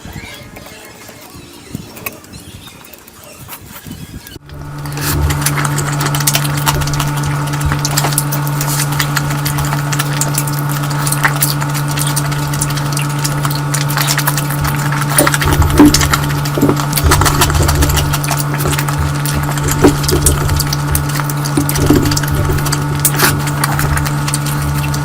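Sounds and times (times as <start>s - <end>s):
low electrical hum: 0.0s - 25.0s
chewing smacks: 0.1s - 25.0s.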